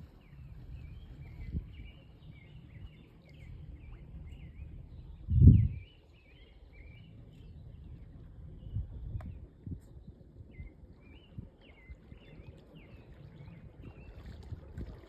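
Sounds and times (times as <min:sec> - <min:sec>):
birds singing warbling chirps: 0:00.0 - 0:15.0
wind rumble on microphone: 0:00.0 - 0:15.0.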